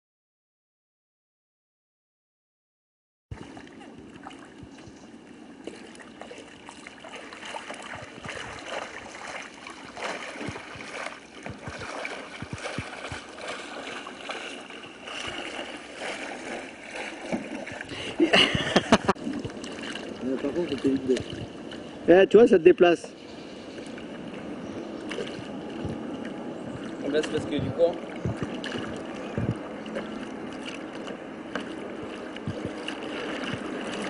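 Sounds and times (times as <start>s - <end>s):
paddle gurgling and splashing water: 3.3s - 22.1s, 23.5s - 34.0s.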